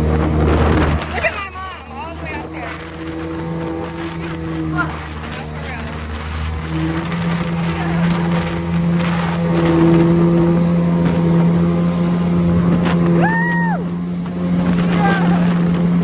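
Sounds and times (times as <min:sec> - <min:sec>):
jet ski engine running: 0:00.0 - 0:16.0
water and wind noise: 0:00.0 - 0:16.0.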